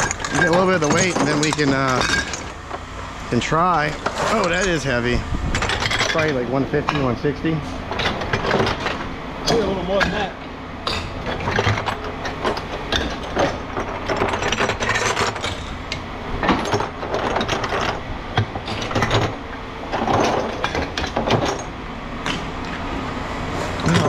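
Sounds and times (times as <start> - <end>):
scrap metal clanking and rattling: 0.0 - 24.0.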